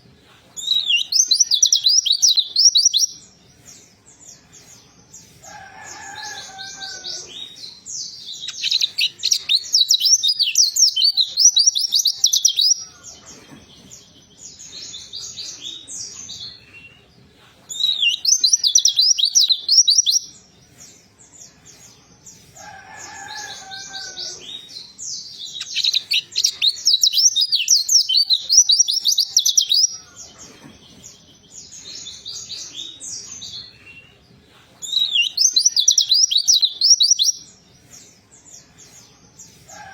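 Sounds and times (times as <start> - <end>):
bird twittering song: 0.6 - 17.1, 17.7 - 34.2, 34.8 - 39.9.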